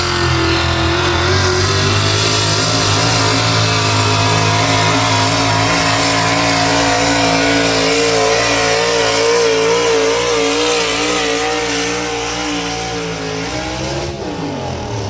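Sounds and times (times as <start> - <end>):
engine at full throttle: 0.0 - 15.0.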